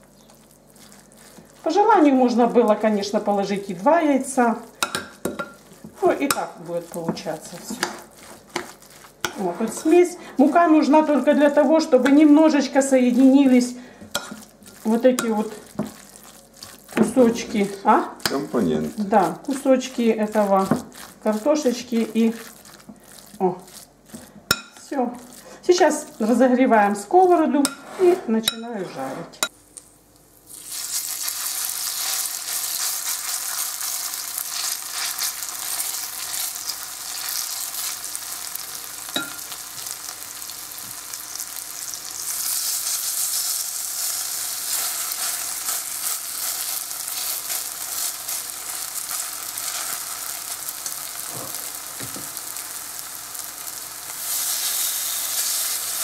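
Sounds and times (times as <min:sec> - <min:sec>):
batter sizzling in hot oil: 0:00.0 - 0:27.8, 0:30.2 - 0:56.0.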